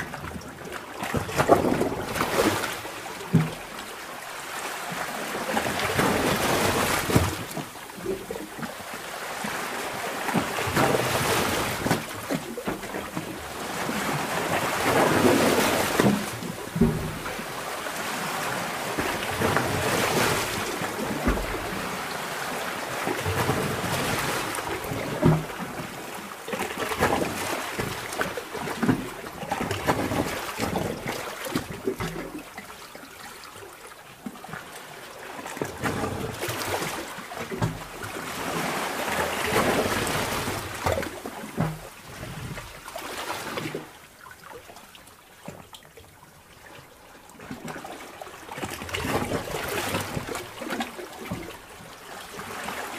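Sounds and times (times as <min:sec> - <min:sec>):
underwater water surging: 0:00.0 - 0:52.9.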